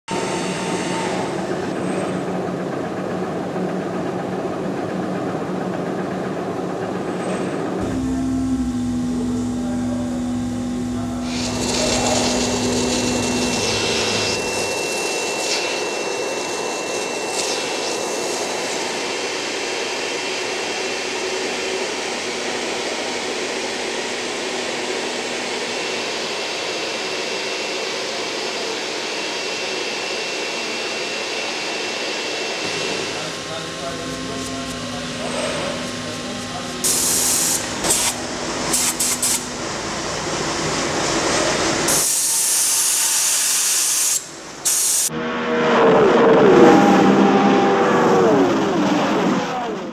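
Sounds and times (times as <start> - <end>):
industrial machine hum: 0.1 - 43.0, 44.2 - 49.9
industrial vacuum sucking powder: 7.8 - 49.9.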